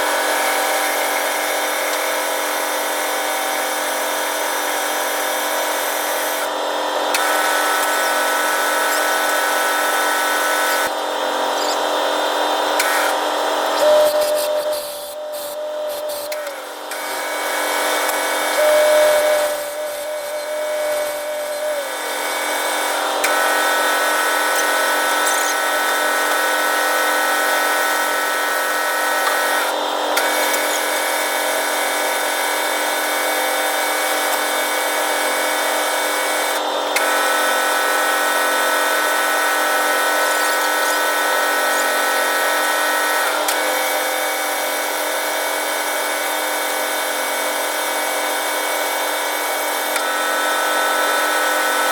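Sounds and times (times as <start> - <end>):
high gear whine: 0.0 - 45.0
lathe running with whine: 0.0 - 51.9.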